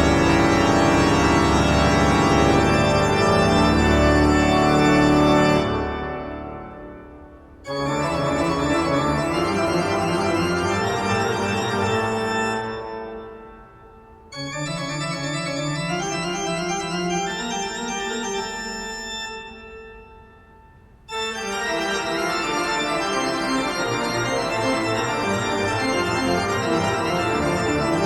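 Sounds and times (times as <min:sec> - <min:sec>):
organ-like keyboard chords: 0:00.0 - 0:28.0.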